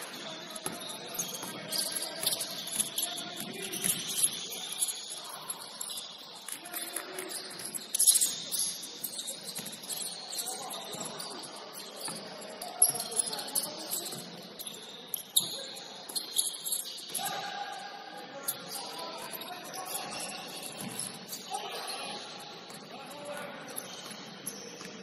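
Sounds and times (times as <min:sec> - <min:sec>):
sneaker squeaks on court floor: 0:00.0 - 0:17.6, 0:18.5 - 0:25.0
faint voices: 0:00.0 - 0:25.0.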